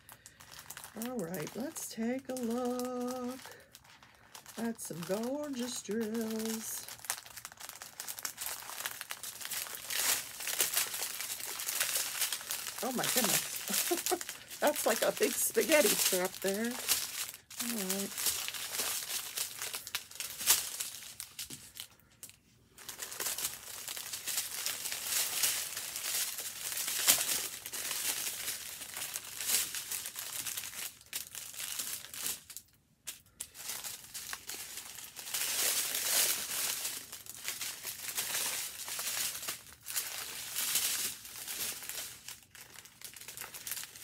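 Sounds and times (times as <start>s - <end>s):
plastic film crinkling: 0.0s - 44.0s.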